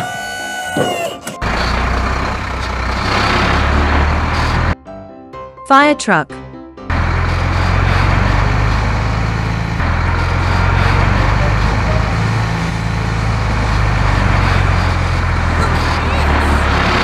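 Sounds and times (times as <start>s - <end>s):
large truck engine running: 0.9s - 4.8s, 6.9s - 17.0s.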